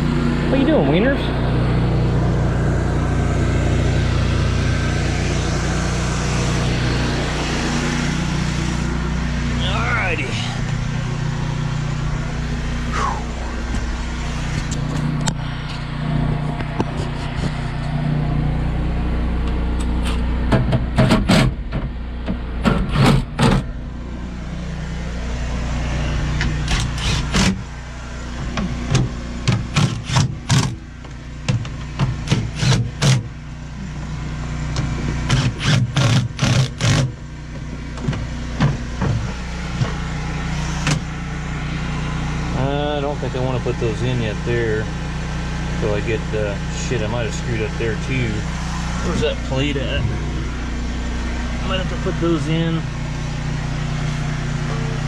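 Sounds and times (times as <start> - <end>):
low engine drone: 0.0 - 55.0.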